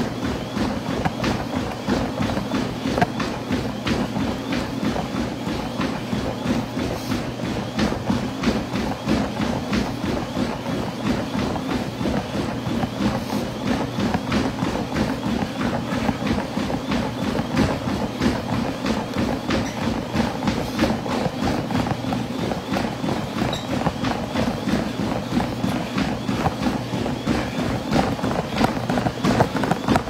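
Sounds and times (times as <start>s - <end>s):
running footfalls on treadmill: 0.0s - 30.0s
treadmill motor and belt hum: 0.0s - 30.0s.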